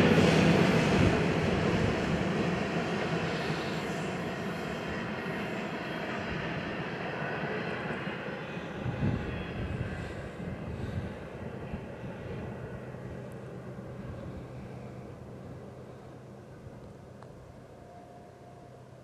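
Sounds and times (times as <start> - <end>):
freight train rumbling: 0.0 - 6.8, 8.4 - 19.0.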